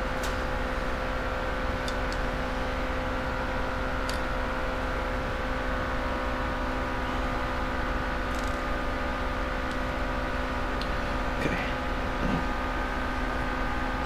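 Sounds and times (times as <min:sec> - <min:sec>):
shop equipment humming: 0:00.0 - 0:14.0.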